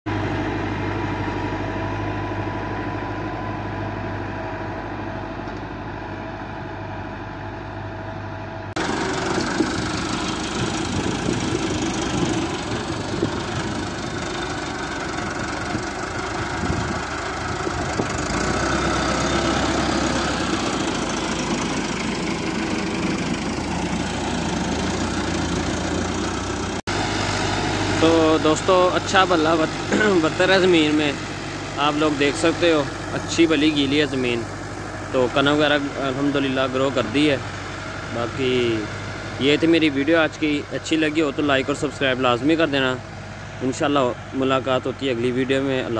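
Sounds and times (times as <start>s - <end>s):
tractor diesel engine running: 0.1s - 45.9s
cultivator pulled through soil: 8.8s - 45.9s.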